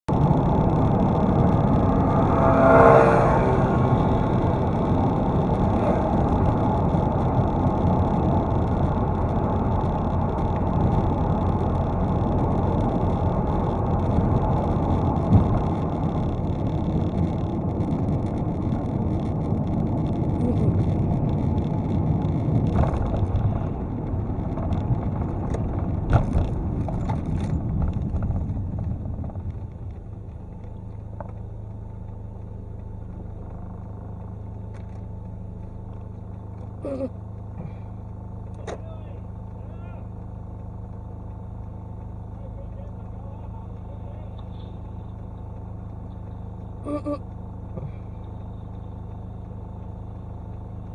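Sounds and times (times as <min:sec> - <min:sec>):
road and engine rumble in car: 0:00.0 - 0:50.9.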